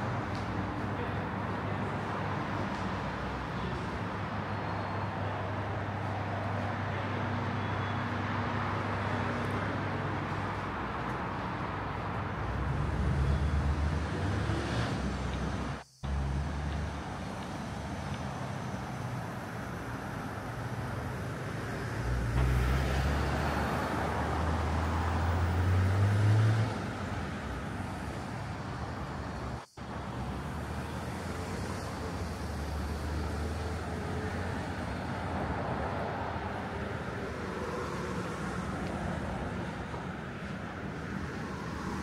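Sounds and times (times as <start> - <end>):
steady traffic noise: 0.0 - 42.0.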